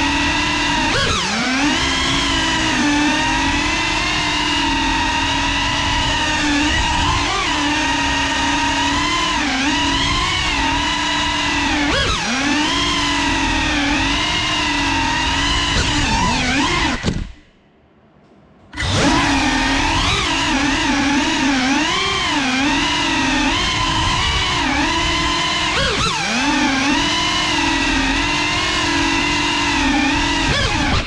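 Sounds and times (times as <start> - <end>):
drone propellers whining: 0.0 - 17.5, 18.6 - 31.0.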